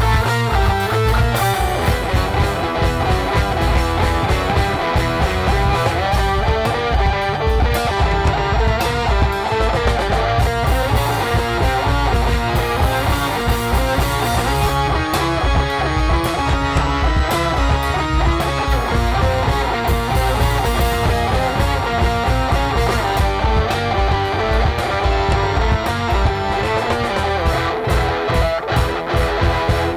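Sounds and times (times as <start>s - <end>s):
drums: 0.0s - 29.9s
electric guitar: 0.0s - 29.9s.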